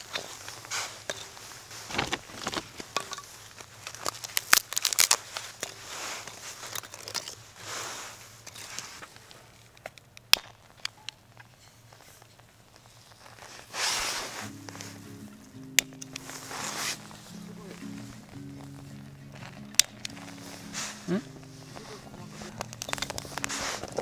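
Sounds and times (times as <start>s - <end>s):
soft rustles: 0.0s - 9.9s, 10.6s - 15.4s, 16.0s - 24.0s
wooden sticks clattering: 0.0s - 24.0s.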